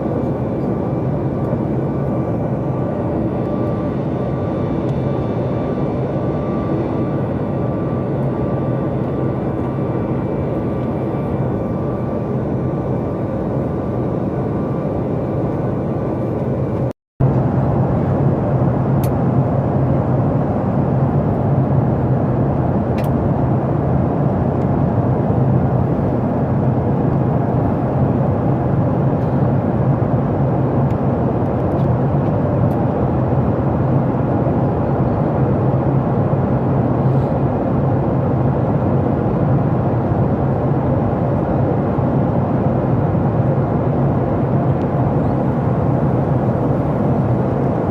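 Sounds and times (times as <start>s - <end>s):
jet engine cabin drone: 0.0s - 47.9s.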